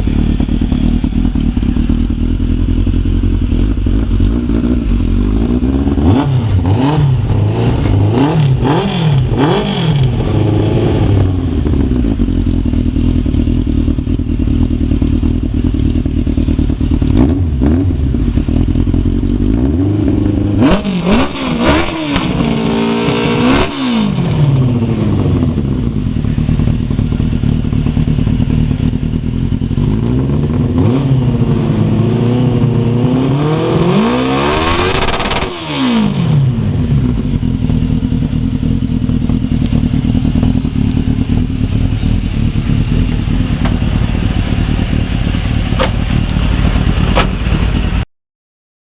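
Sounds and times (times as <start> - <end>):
motorcycle engine revving: 0.0 - 48.1.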